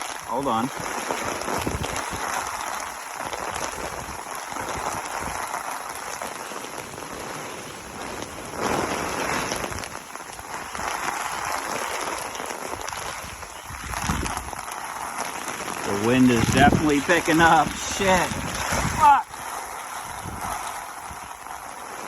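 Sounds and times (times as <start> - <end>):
gusting wind: 0.0 - 22.0
heavy rain: 0.0 - 22.0.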